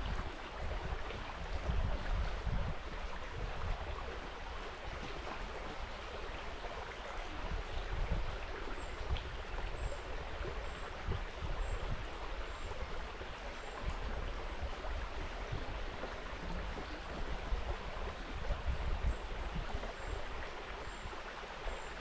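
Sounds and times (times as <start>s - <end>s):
river water rushing: 0.0s - 22.0s
wind rumble on microphone: 0.0s - 22.0s.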